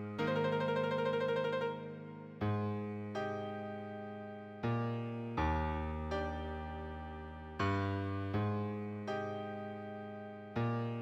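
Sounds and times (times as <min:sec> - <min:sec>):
solo piano: 0:00.0 - 0:11.0.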